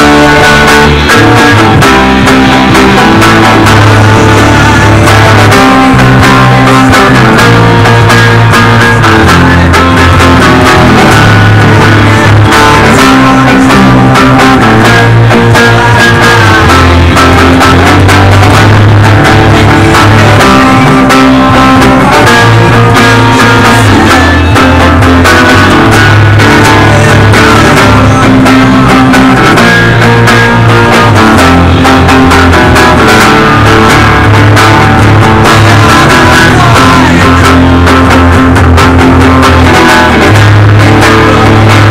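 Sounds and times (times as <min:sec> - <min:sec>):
heavy bass line: 0:00.0 - 0:41.9
rock band playing: 0:00.0 - 0:41.9.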